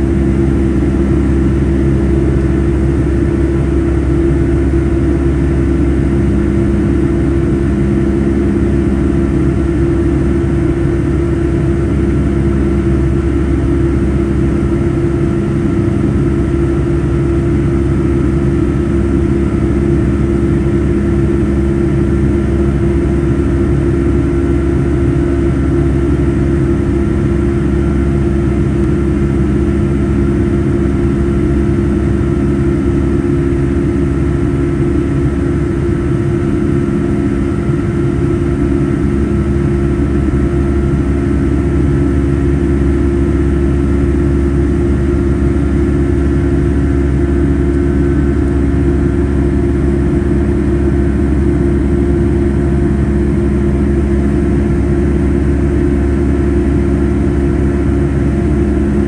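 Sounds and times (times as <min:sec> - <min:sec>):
jet engine cabin drone: 0:00.0 - 0:59.0.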